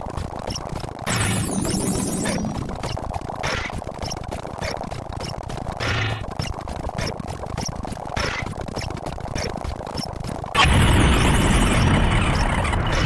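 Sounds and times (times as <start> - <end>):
rapid clicks: 0.0 - 13.0
layered sound effects: 0.5 - 13.0.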